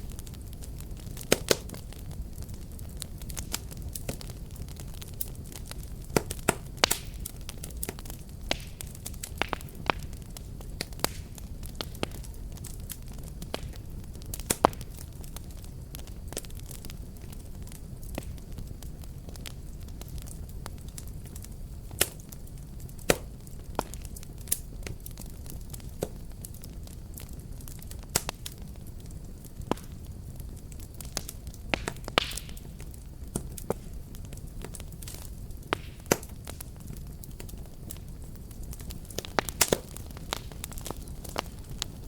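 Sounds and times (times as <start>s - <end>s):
fire crackles and pops: 0.0s - 42.0s
fire low rumble: 0.0s - 42.0s.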